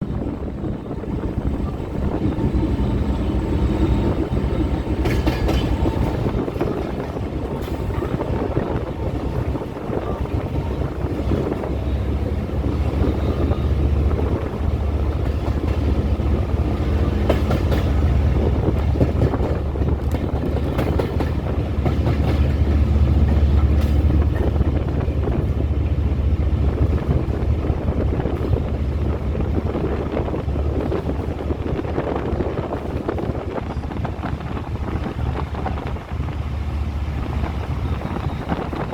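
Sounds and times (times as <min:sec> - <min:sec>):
train rumbling: 0:00.0 - 0:38.9
wind on microphone: 0:00.0 - 0:38.9.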